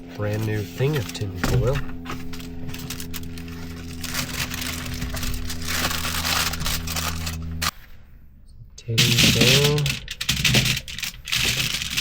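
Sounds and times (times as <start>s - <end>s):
low hum: 0.0s - 12.0s
aluminium foil crinkling: 0.2s - 7.7s, 9.1s - 12.0s.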